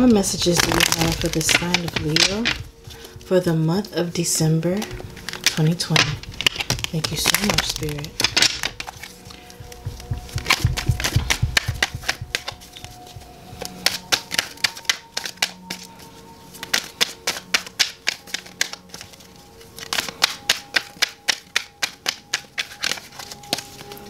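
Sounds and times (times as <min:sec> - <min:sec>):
soft background music: 0:00.0 - 0:24.0
cards being shuffled: 0:00.2 - 0:03.3, 0:04.8 - 0:24.0.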